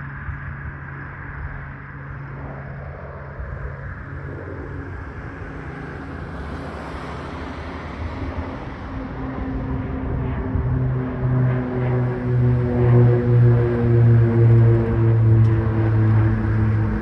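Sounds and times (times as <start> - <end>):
turboprop aircraft drone: 0.0 - 17.0.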